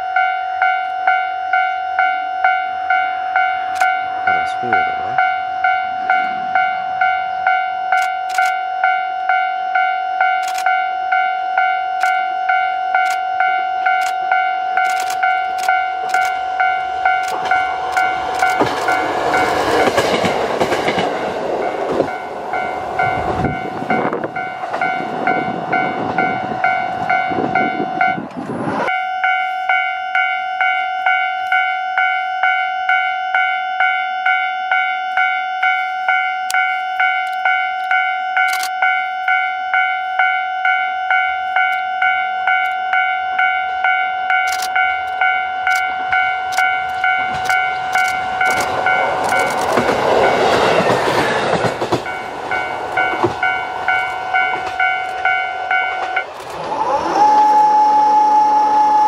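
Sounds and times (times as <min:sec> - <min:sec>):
pulsing ringing tone: 0:00.0 - 0:20.0, 0:21.6 - 0:50.8, 0:52.0 - 0:59.0
diesel railcar passing: 0:00.0 - 0:59.0
train wheels on rails: 0:10.2 - 0:33.0, 0:33.8 - 0:59.0.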